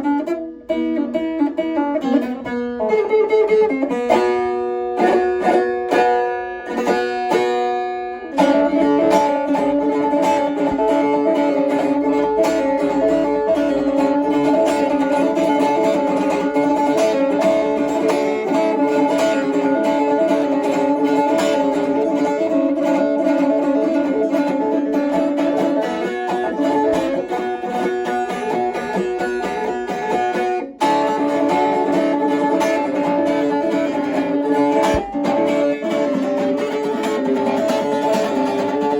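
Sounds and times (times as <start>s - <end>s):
plucked string instrument: 0.0s - 38.9s.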